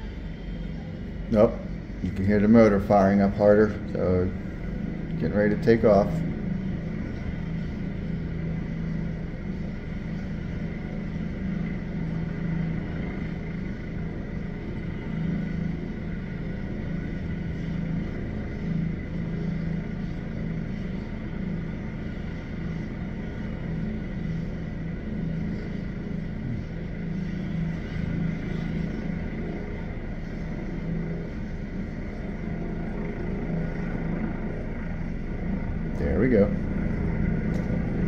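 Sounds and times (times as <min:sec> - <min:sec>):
constant high whine: 0:00.0 - 0:38.0
helicopter rotor thrum: 0:00.0 - 0:38.0.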